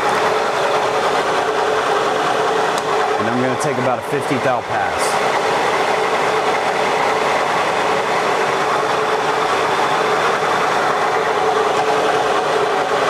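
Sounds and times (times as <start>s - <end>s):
lathe droning: 0.0s - 13.0s.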